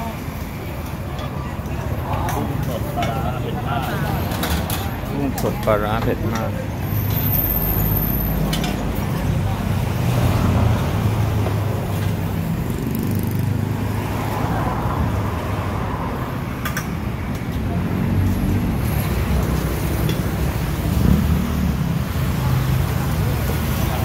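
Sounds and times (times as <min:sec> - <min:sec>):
street and shop background rumble: 0:00.0 - 0:24.0.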